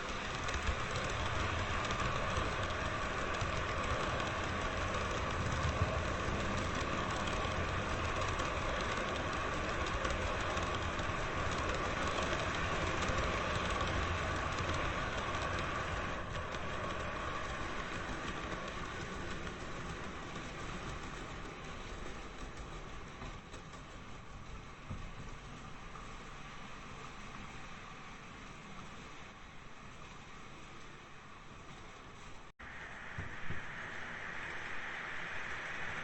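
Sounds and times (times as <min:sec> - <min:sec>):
wheels clattering on rail: 0:00.0 - 0:32.5
train rolling: 0:00.0 - 0:36.0.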